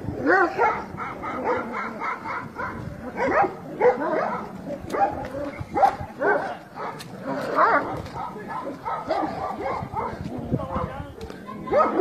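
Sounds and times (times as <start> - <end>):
dogs fighting and barking: 0.0 - 10.9, 11.6 - 12.0.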